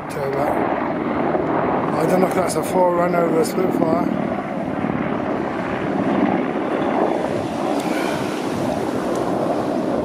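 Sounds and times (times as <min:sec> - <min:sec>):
distant helicopter droning: 0:00.0 - 0:10.0
wind buffeting microphone: 0:00.0 - 0:10.0.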